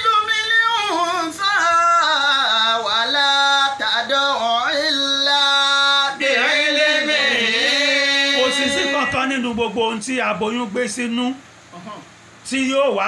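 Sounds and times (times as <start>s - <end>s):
man chanting melodic recitation: 0.0s - 10.8s.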